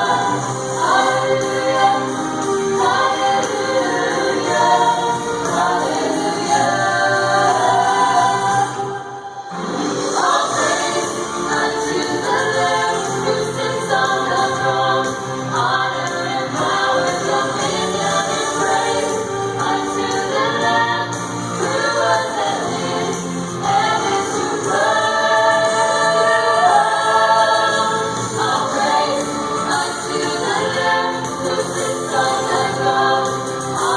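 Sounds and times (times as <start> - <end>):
choir singing gospel song: 0.0 - 33.9.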